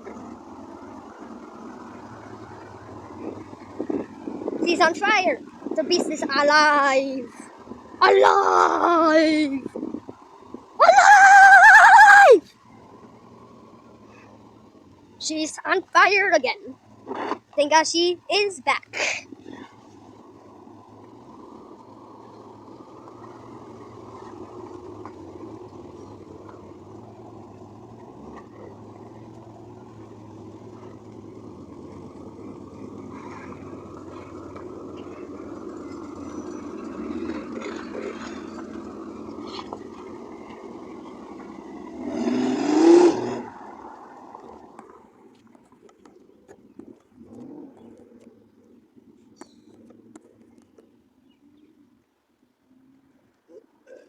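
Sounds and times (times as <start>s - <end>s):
car engine running and revving: 0.0s - 51.8s.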